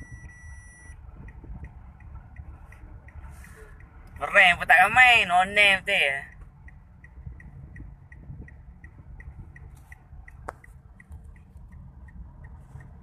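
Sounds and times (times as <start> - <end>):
car flasher relay ticking: 0.0 - 13.0
road noise inside car: 0.0 - 13.0.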